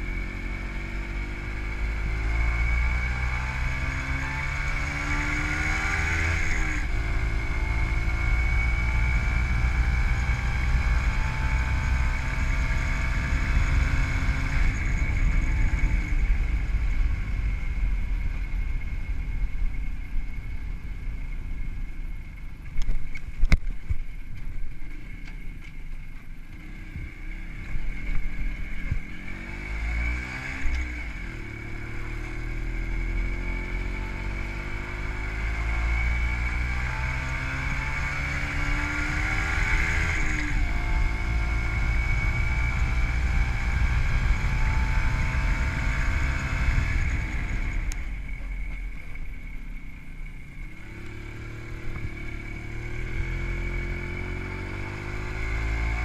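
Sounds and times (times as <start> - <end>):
motorcycle engine revving: 0.0 - 22.4, 26.5 - 56.0.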